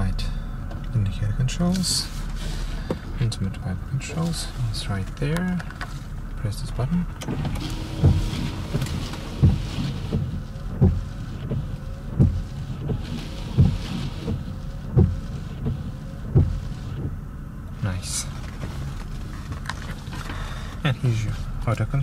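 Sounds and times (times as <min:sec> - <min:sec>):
wiper motor whine: 0:00.0 - 0:22.0
wiper blades thumping: 0:00.6 - 0:22.0.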